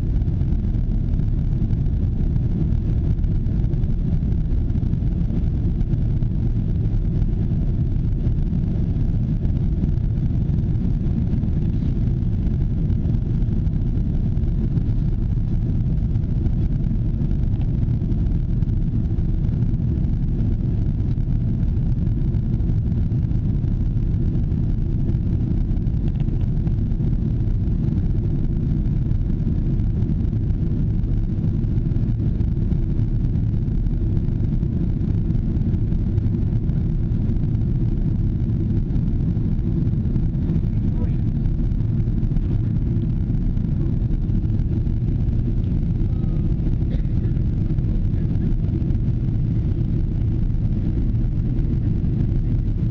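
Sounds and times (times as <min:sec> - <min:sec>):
jet cabin engine rumble: 0:00.0 - 0:52.9.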